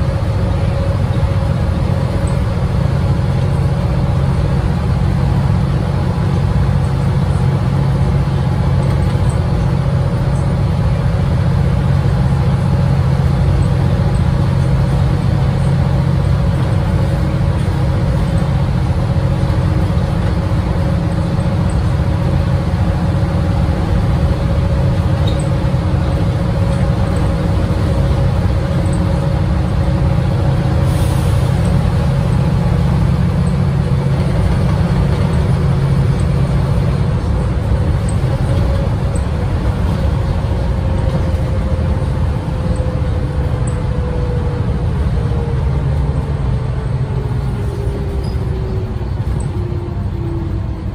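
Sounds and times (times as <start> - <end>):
bus engine humming: 0.0 - 50.9
road noise: 0.0 - 50.9.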